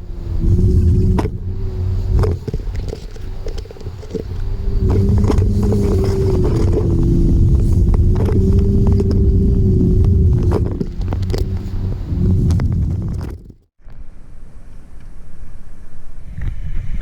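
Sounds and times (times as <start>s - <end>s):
vehicle engine running: 0.0s - 13.7s.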